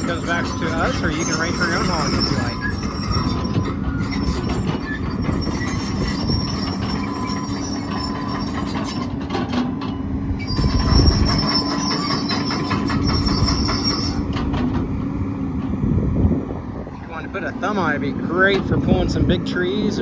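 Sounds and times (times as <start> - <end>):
excavator engine whine: 0.0 - 20.0.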